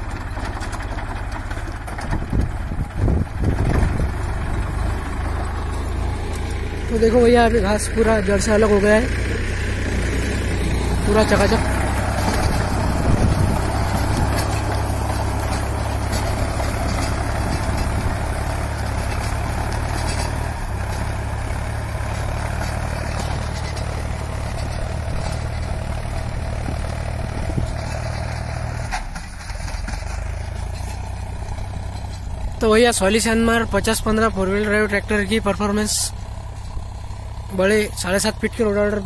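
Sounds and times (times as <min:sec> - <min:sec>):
rotavator tilling hard soil: 0:00.0 - 0:39.0
tractor engine droning: 0:00.0 - 0:39.0.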